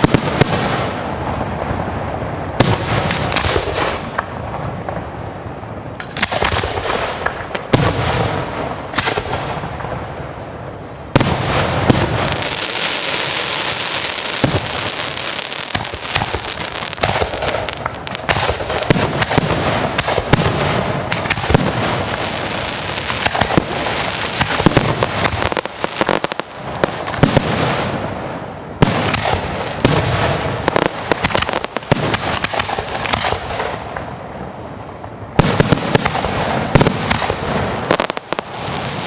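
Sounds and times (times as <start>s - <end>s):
fireworks bursting with bangs: 0.0s - 39.0s
fireworks crackling: 0.0s - 39.0s.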